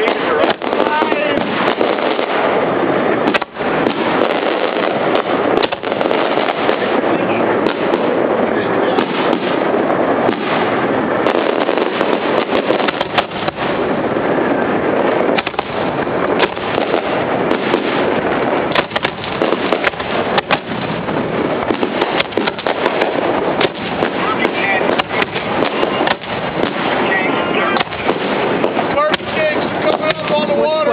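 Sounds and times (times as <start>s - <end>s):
fireworks launches and bursts: 0.0s - 30.9s
steady rushing noise: 0.0s - 30.9s.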